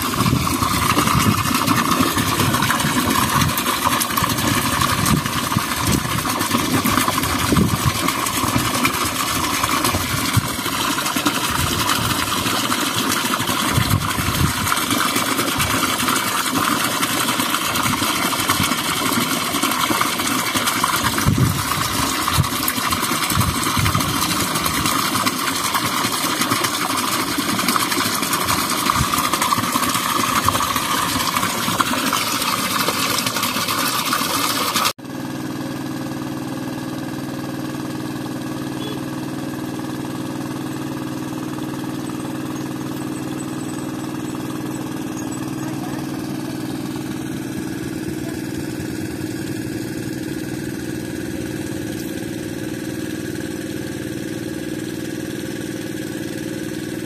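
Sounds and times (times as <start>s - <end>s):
small petrol engine running: 0.0s - 57.0s.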